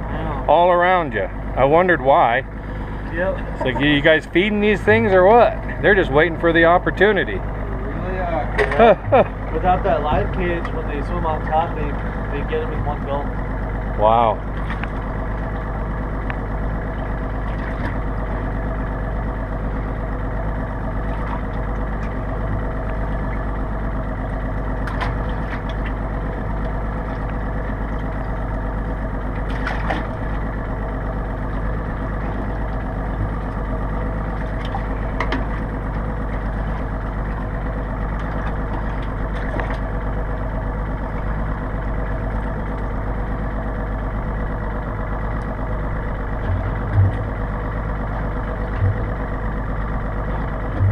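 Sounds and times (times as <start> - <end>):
boat engine idling: 0.0 - 50.9.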